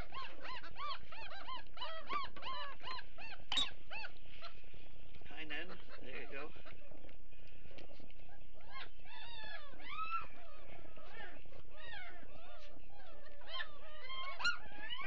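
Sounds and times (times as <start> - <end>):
puppies whining and yelping: 0.0 - 4.6, 5.4 - 15.0.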